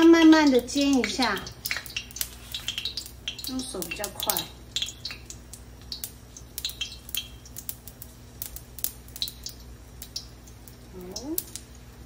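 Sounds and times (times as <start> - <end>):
oil crackling and popping: 0.0 - 12.0
steady low hum: 0.0 - 12.0.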